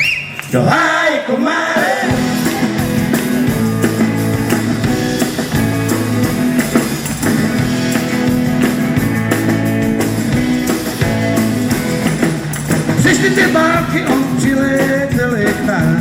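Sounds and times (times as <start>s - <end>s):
drum kit beat: 1.7s - 16.0s
rock band playing live: 1.7s - 16.0s
electric guitar: 2.0s - 16.0s.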